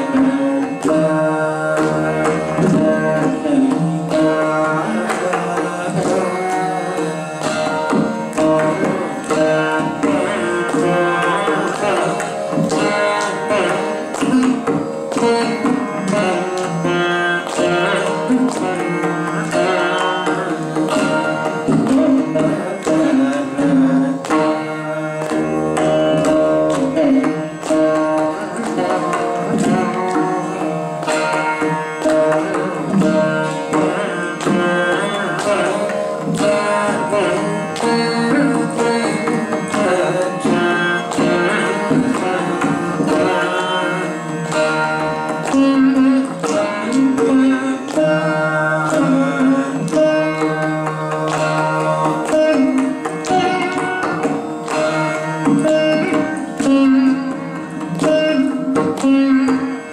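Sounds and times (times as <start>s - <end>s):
plucked string melody: 0.0s - 59.9s.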